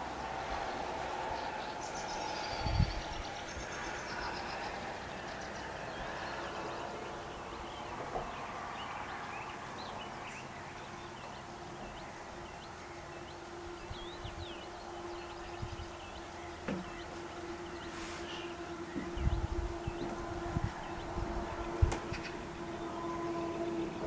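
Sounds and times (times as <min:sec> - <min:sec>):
small birds chirping: 0:01.4 - 0:24.0.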